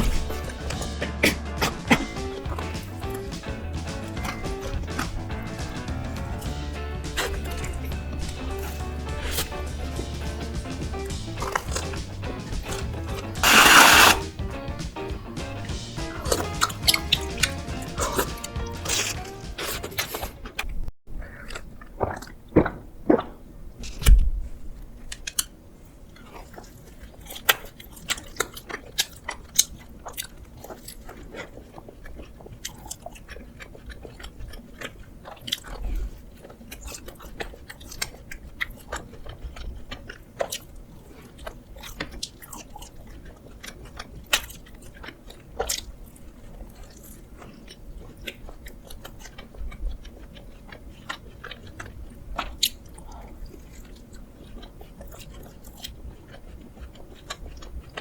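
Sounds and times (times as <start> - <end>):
person chewing food: 0.0 - 10.1, 11.0 - 14.2, 16.3 - 24.1, 24.8 - 58.0.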